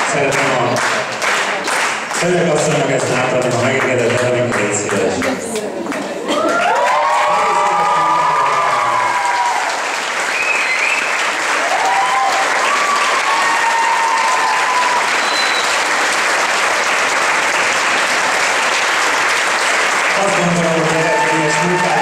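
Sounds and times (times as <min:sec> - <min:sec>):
crowd applauding: 0:00.0 - 0:22.0.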